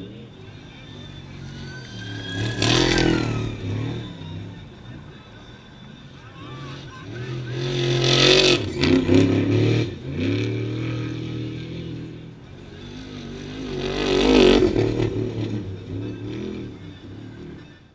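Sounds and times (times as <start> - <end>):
race trucks passing at speed: 0.0 - 17.8.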